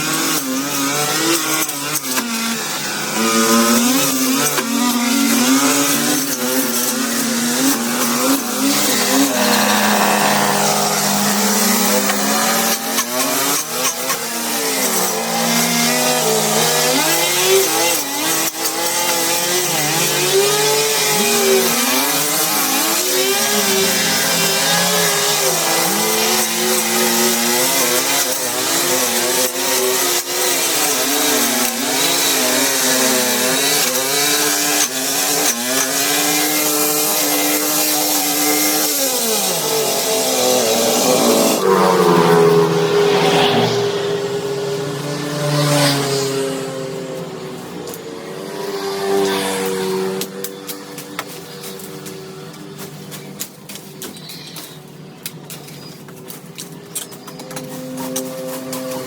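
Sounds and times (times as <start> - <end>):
small engine revving: 0.0 - 53.4.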